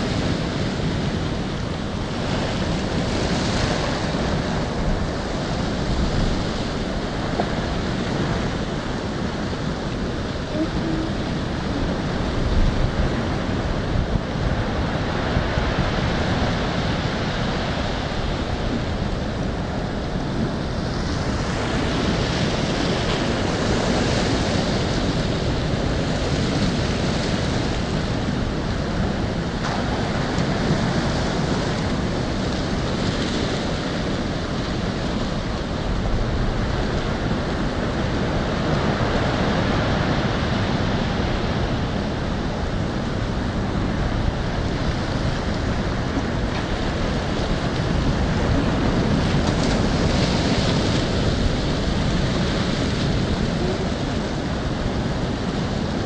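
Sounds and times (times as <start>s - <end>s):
ocean waves breaking: 0.0s - 56.0s
wind buffeting microphone: 0.0s - 56.0s.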